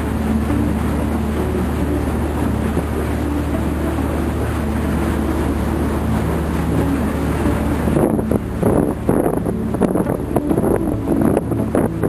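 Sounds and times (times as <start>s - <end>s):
boat engine droning: 0.0s - 12.0s
hull rushing through water and ice: 0.0s - 12.0s.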